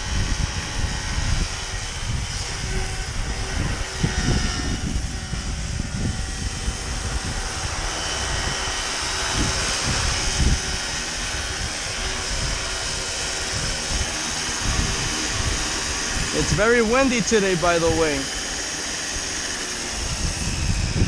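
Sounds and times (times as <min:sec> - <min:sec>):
rc helicopter motor and rotor whine: 0:00.0 - 0:21.0
wind buffeting microphone: 0:00.0 - 0:21.0.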